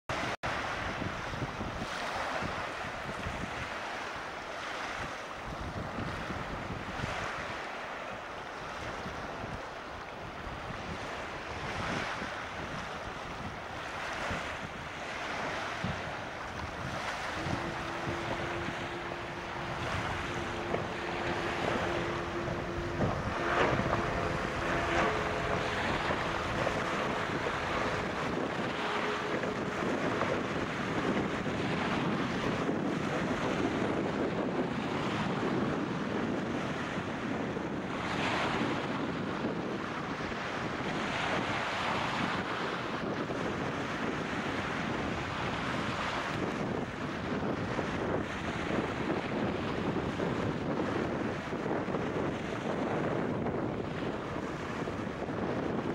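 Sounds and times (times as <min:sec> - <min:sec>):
wind buffeting microphone: 0:00.1 - 0:55.9
outboard motor running: 0:10.4 - 0:55.9.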